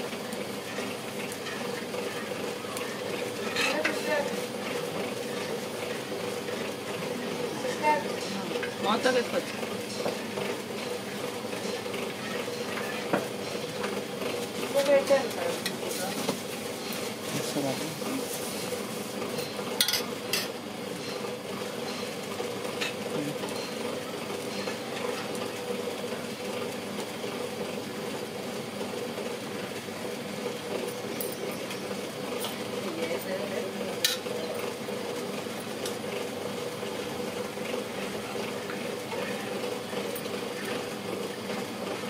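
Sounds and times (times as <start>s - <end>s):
frying sizzle: 0.0s - 42.0s.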